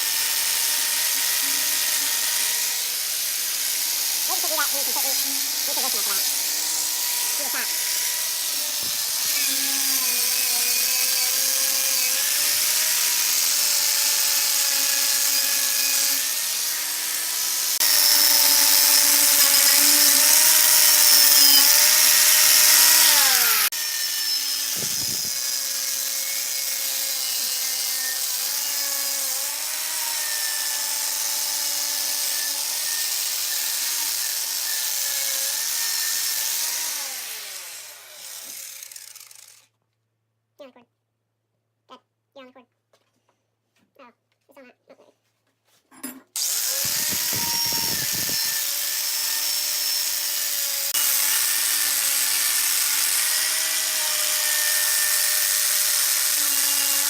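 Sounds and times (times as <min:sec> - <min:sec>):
power tool running on metal: 0:00.0 - 0:39.6, 0:46.4 - 0:57.0.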